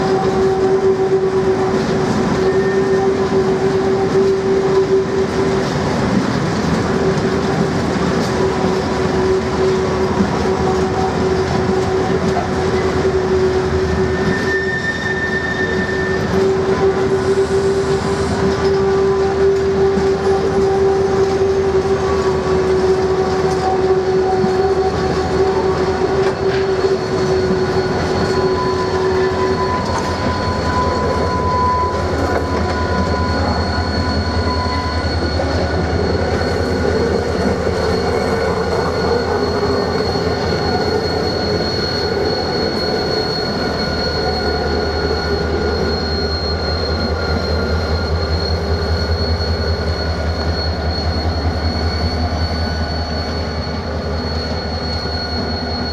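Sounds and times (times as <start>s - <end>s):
diesel locomotive engine throbbing: 0.0s - 55.9s
freight wagon wheels squealing: 0.0s - 55.9s.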